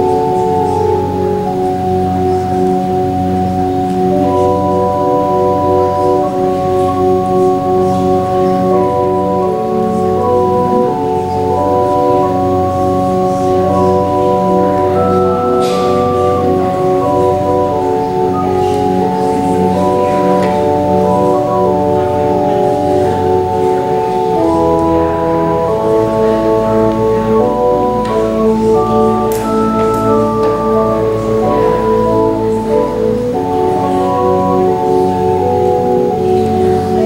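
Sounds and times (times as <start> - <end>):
organ playing chords: 0.0 - 37.0.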